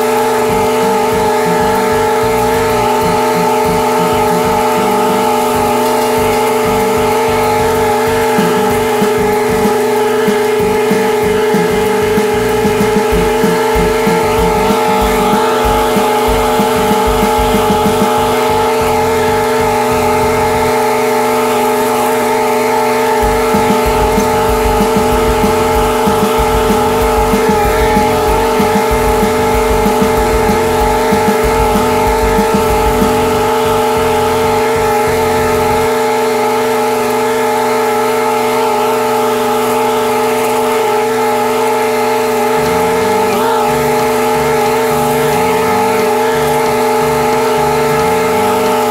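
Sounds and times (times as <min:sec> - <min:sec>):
lawn mower engine running: 0:00.0 - 0:48.9.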